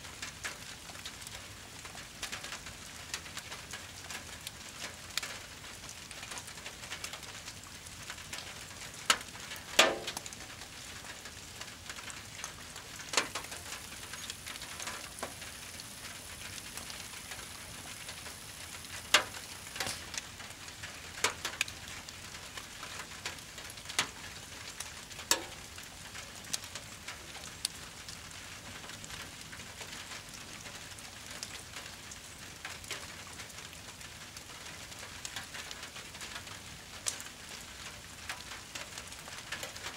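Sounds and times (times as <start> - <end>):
burning brush crackling and popping: 0.0 - 39.9
rain hissing: 0.1 - 39.9.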